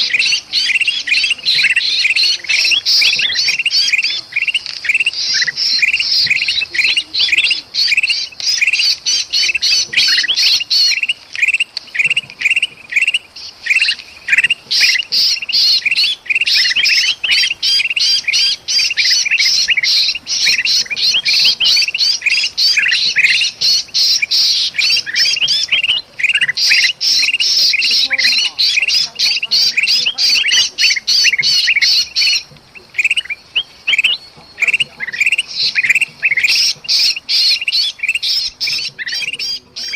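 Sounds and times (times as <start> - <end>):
birds squawking alarm calls: 0.0 - 39.9.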